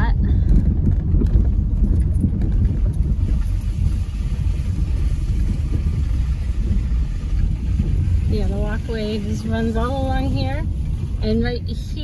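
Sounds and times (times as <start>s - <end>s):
car engine running: 0.0s - 12.0s
tyres and suspension on rough road: 0.0s - 12.0s.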